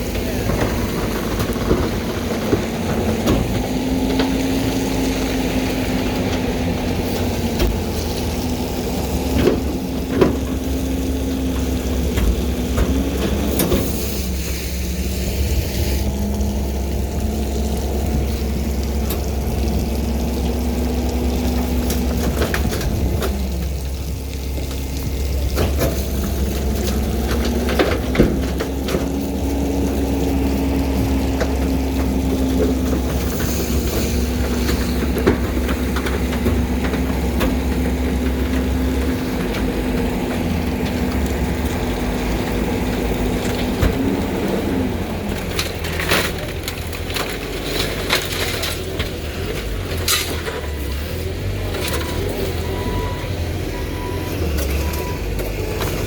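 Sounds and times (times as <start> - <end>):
wood cracking and splintering: 0.0 - 53.7
engine running under load: 0.0 - 56.0.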